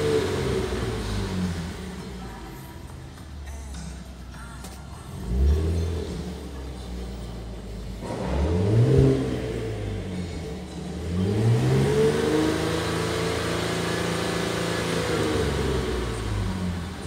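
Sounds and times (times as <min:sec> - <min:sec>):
car engine revving: 0:00.0 - 0:02.2, 0:05.1 - 0:17.0.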